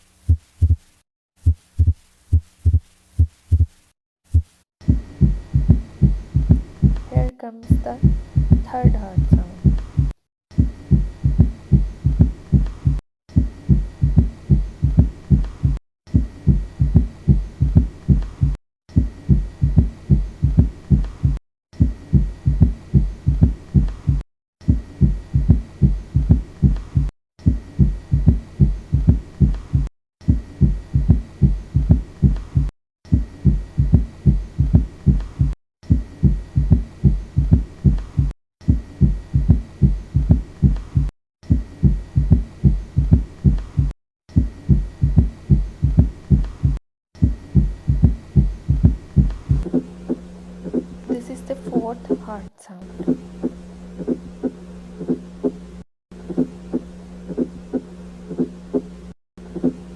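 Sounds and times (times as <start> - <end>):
heartbeat gallop rhythm: 0.3 - 55.6, 56.3 - 59.8.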